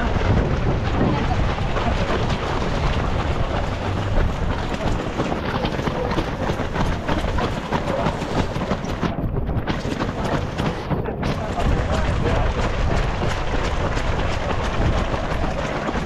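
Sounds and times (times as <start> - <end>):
runners' footsteps on road: 0.0 - 16.0
wind rumbling on microphone: 0.0 - 16.0.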